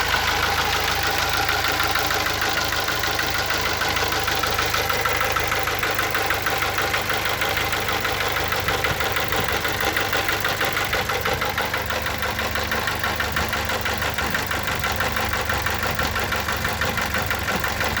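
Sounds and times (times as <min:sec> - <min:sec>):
car engine idling: 0:00.0 - 0:18.0
rhythmic engine knocking: 0:00.0 - 0:18.0.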